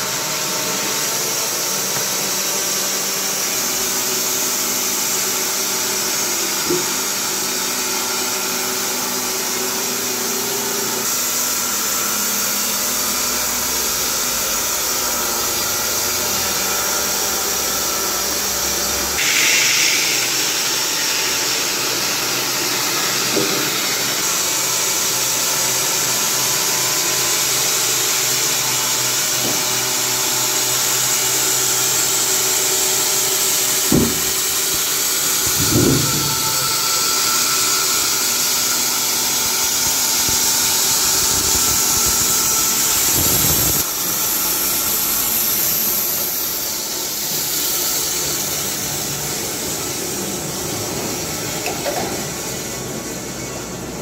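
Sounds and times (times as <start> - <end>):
band saw cutting log: 0.0 - 50.0.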